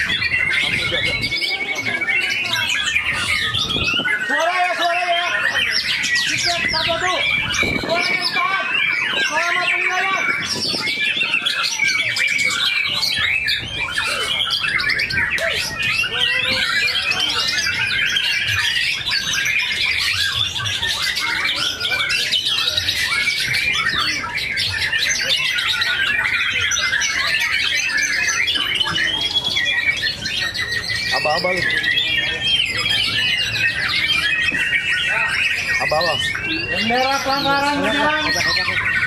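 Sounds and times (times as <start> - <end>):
birds singing whistles and trills: 0.0 - 39.0.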